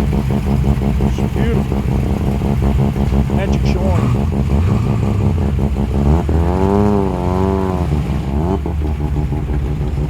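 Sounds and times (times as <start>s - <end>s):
car engine idling lumpily: 0.0s - 10.0s
engine note rising and wavering: 0.0s - 10.0s.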